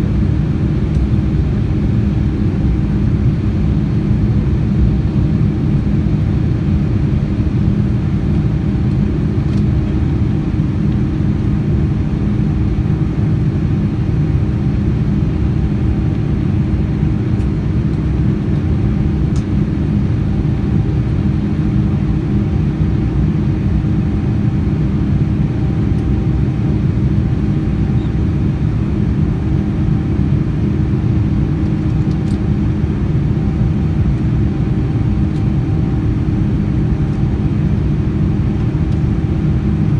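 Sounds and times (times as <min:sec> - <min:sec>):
airplane cabin engine rumble: 0:00.0 - 0:39.9
faint steady hums: 0:00.0 - 0:39.9.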